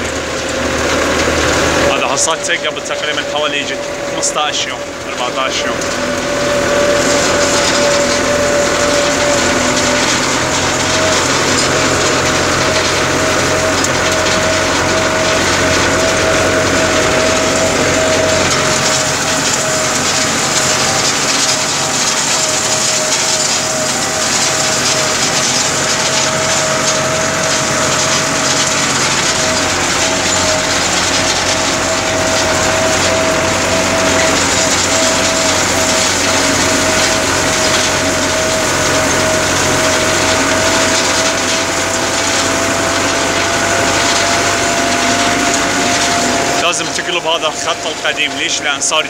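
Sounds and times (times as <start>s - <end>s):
steady whine: 0.0s - 49.0s
tractor engine running: 0.0s - 49.0s.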